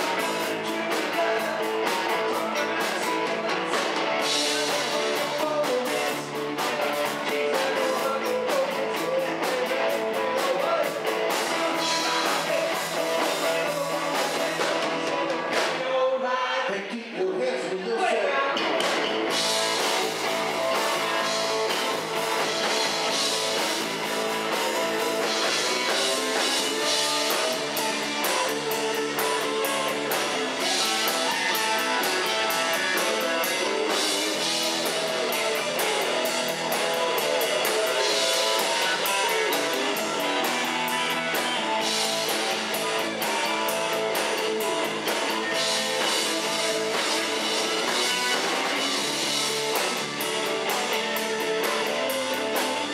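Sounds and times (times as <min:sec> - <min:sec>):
electric bass: 0:00.0 - 0:15.8, 0:18.6 - 0:52.9
drum kit with cymbals: 0:00.0 - 0:15.9, 0:18.6 - 0:52.9
electric guitars: 0:00.0 - 0:16.5, 0:17.6 - 0:52.9.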